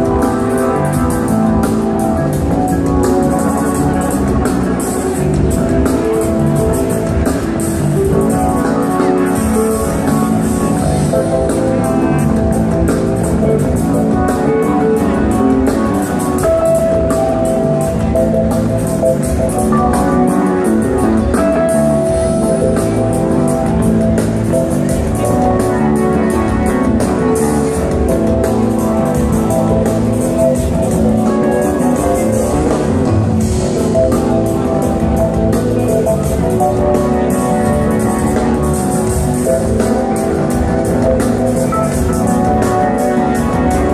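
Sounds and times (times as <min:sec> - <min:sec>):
drums beating: 0:00.0 - 0:43.9
live band music: 0:00.0 - 0:43.9.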